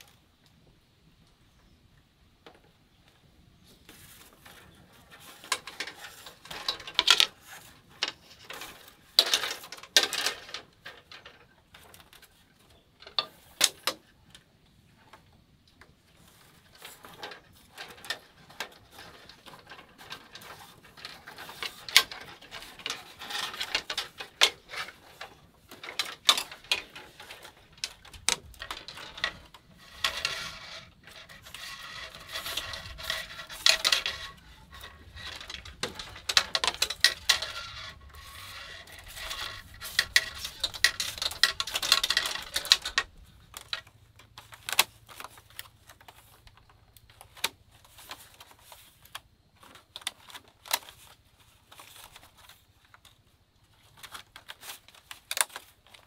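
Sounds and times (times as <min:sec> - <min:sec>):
bamboo strips clicking and scraping: 0:02.4 - 0:56.0.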